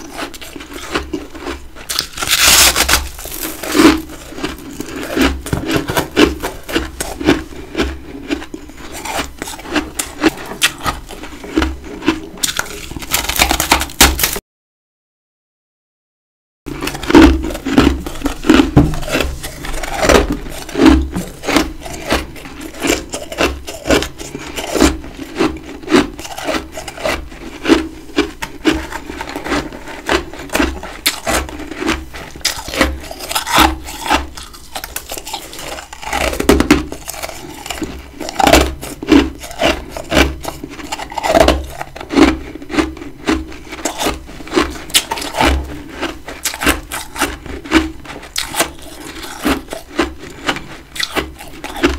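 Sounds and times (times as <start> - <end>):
chewing crunchy frost: 0.0 - 14.4, 16.7 - 51.9.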